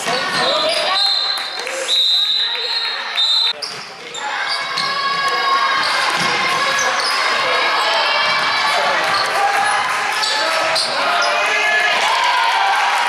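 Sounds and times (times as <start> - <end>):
crowd shouting and cheering: 0.0 - 13.0.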